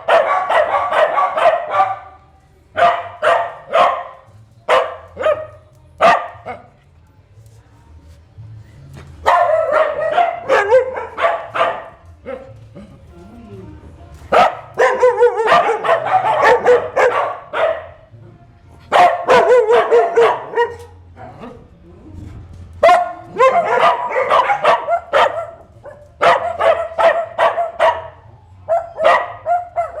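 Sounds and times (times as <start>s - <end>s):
dogs barking: 0.0s - 6.8s, 9.2s - 12.9s, 14.3s - 18.2s, 18.8s - 21.7s, 22.8s - 30.0s.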